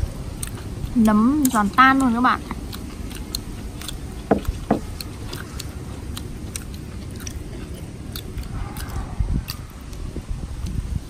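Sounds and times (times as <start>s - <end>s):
person crunching fried food: 0.4s - 10.8s.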